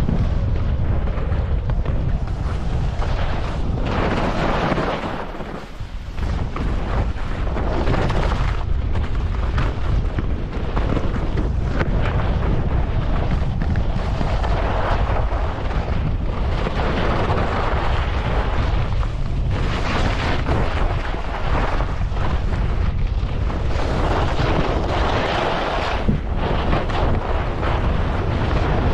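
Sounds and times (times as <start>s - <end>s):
skis scraping on snow: 0.0s - 28.9s
wind buffeting microphone: 0.0s - 28.9s.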